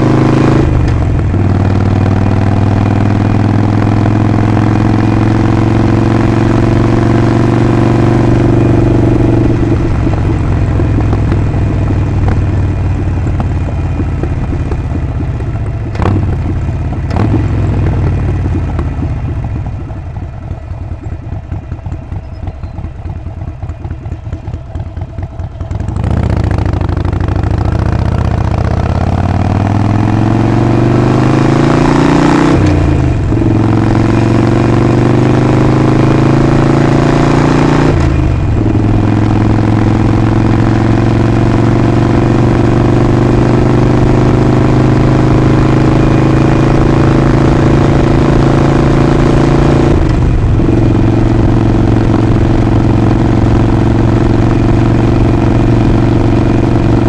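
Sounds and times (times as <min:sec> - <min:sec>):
motorcycle pulling away: 0:00.0 - 0:57.0.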